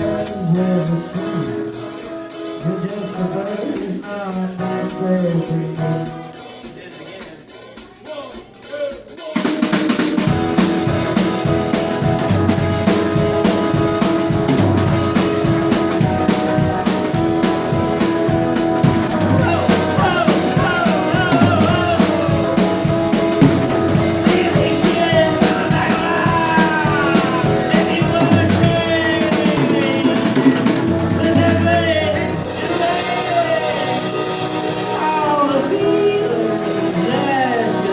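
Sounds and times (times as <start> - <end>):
electric guitar playing: 0.0 - 6.6, 10.0 - 37.9
drum kit beat: 0.0 - 37.9.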